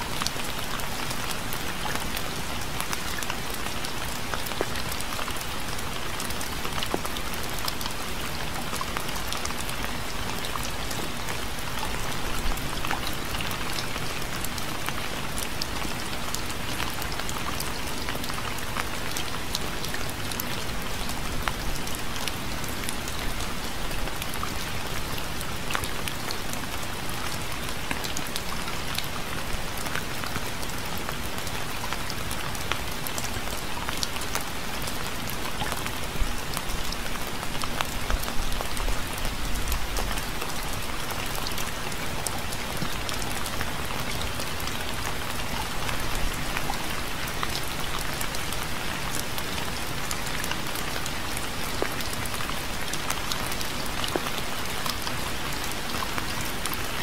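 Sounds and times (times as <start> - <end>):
steady rain with drops ticking: 0.0 - 57.0.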